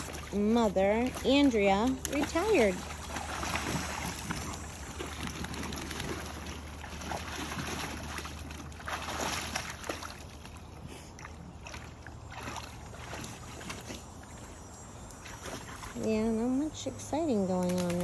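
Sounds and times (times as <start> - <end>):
water splashing in a pool: 0.0 - 18.0.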